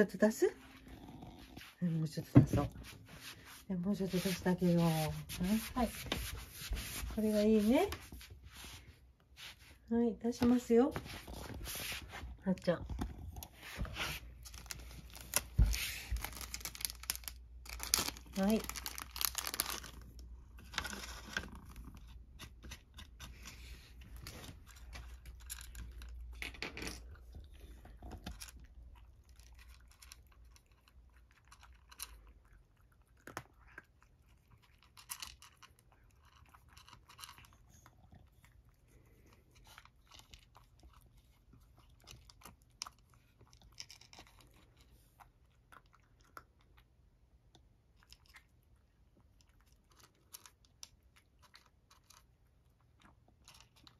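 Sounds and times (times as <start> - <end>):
cat crunching dry kibble: 10.6 - 53.9.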